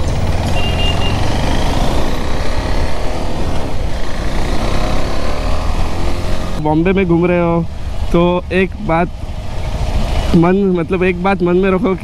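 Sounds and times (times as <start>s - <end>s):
motorcycle engine accelerating: 0.0s - 11.7s.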